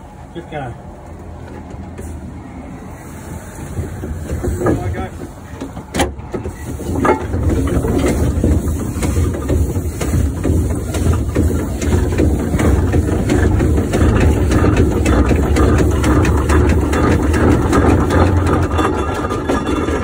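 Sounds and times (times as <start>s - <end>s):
steam engine rumbling: 0.0s - 20.0s.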